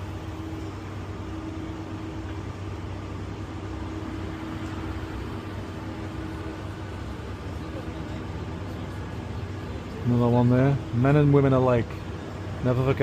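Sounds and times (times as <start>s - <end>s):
vending machines humming: 0.0s - 13.0s.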